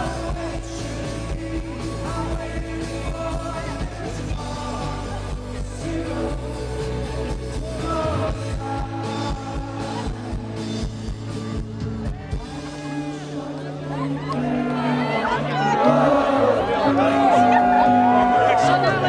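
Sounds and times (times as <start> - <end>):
person singing: 0.0 - 19.0
rock band playing live: 0.0 - 19.0.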